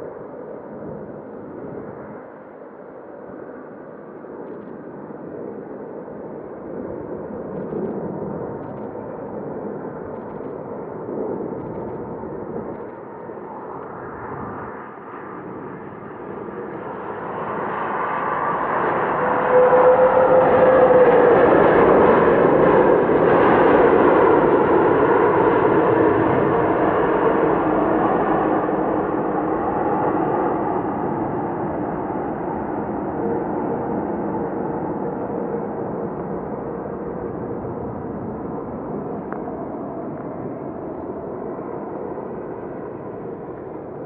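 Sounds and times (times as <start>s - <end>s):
jet engines roaring: 4.2s - 44.0s.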